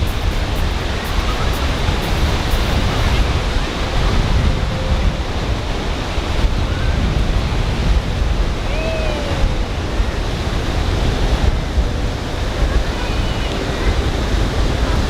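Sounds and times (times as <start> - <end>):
faint gliding call: 0.0 - 15.0
ocean surf on beach: 0.0 - 15.0
wind buffeting microphone: 0.0 - 15.0.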